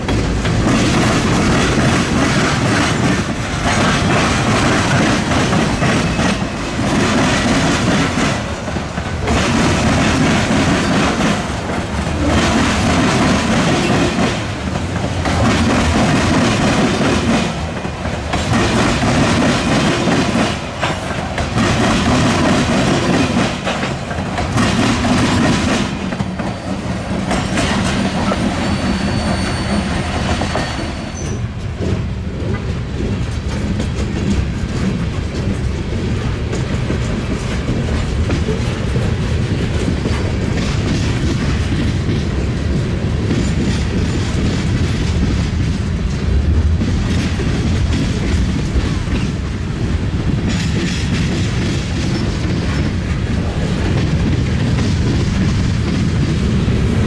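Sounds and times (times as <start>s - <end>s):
train rumbling: 0.0s - 57.0s
train wheels clattering: 0.0s - 57.0s.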